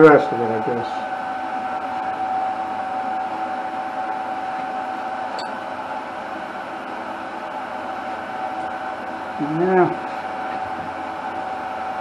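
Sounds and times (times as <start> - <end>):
fan noise: 0.0 - 12.0
machine hum with whine: 0.0 - 12.0.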